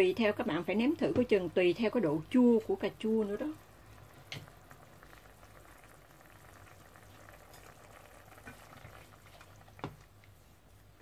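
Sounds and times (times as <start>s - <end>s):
sauce bubbling in a pot: 0.0s - 11.0s.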